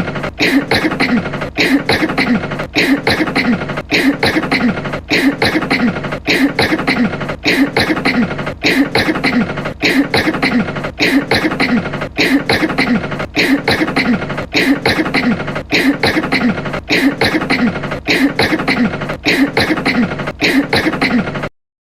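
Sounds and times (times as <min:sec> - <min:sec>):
person coughing: 0:00.0 - 0:21.5.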